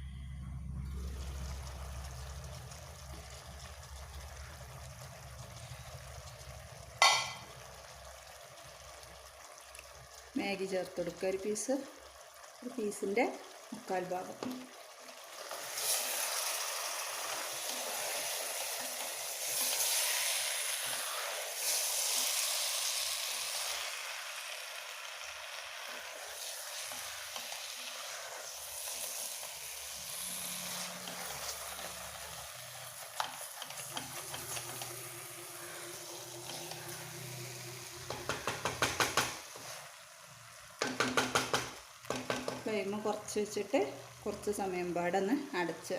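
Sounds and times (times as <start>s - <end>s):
food sizzling in a pan: 0.9s - 45.9s.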